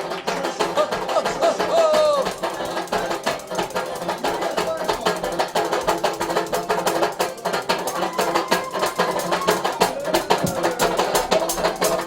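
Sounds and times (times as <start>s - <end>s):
fast drumbeat: 0.0s - 12.0s.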